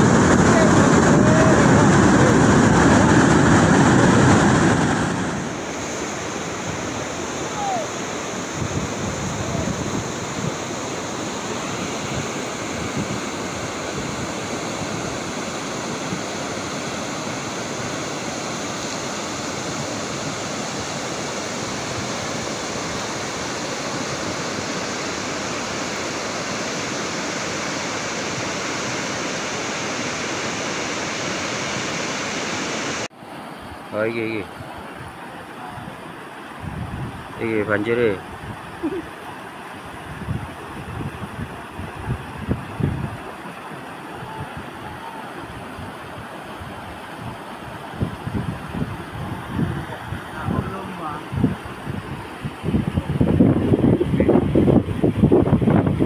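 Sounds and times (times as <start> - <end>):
mudflow rushing down river: 0.0 - 56.0.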